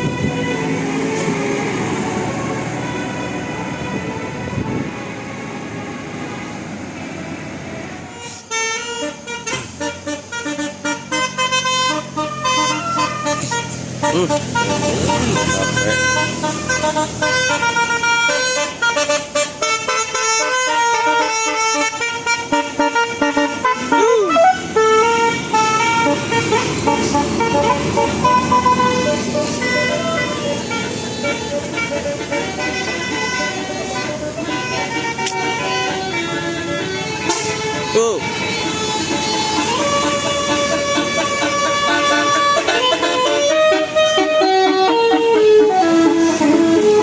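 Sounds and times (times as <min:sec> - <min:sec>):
musical bus horn melody: 0:00.0 - 0:47.0
vehicle noise: 0:00.0 - 0:47.0.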